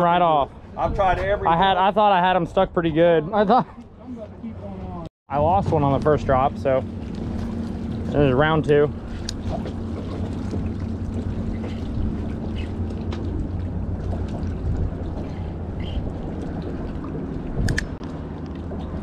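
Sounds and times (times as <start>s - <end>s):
faint droning hum: 0.0s - 19.0s
wind and water rumble: 0.0s - 19.0s.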